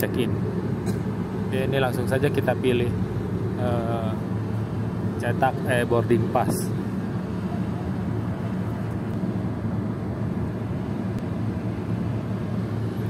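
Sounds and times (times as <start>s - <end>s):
low background rumble with hum: 0.0s - 13.0s.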